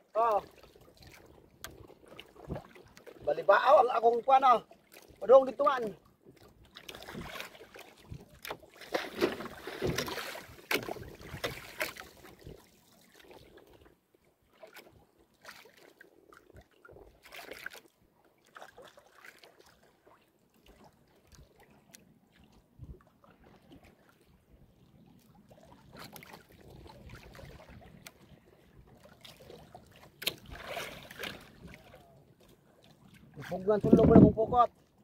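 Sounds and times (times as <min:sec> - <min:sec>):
water splashing against boat hull: 0:00.1 - 0:13.9, 0:14.5 - 0:35.0.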